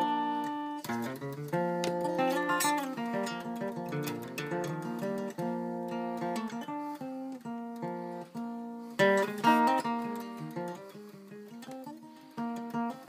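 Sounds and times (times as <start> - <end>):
acoustic guitar picked melody: 0.0 - 13.0
strummed guitar chords: 0.0 - 13.0.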